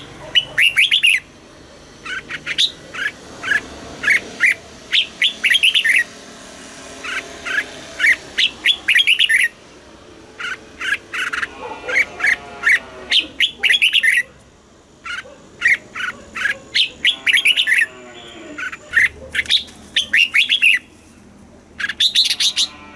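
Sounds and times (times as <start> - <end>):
bulbul singing: 0.0 - 14.3, 14.9 - 21.0, 21.8 - 22.8.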